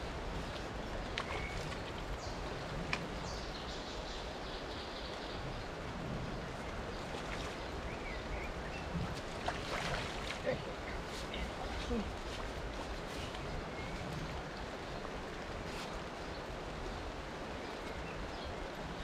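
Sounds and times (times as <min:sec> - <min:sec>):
rain hissing on river: 0:00.0 - 0:19.0.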